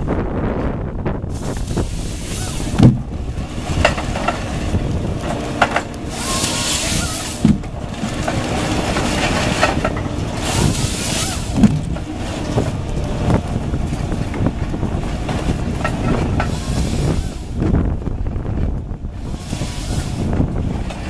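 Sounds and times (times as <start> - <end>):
diesel engine and hydraulics: 0.0 - 21.0
knocks and clunks of logs: 1.6 - 21.0.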